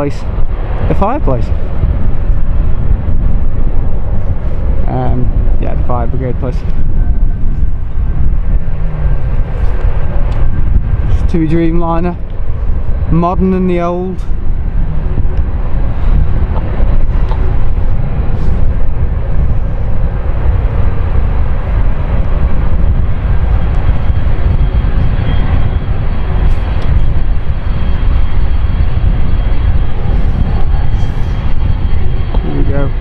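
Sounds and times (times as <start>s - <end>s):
jet engines rumbling with whine: 0.0s - 33.0s.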